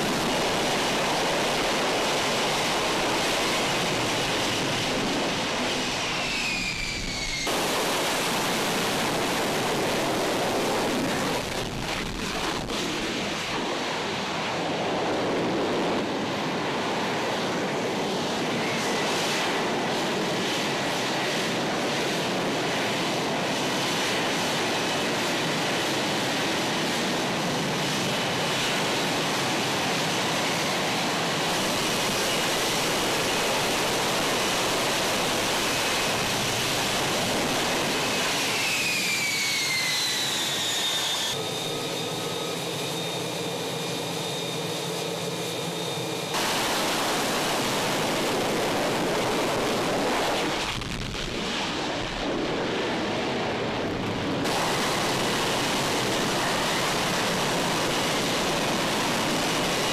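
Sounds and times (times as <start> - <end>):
jet engine rush: 0.0 - 59.9.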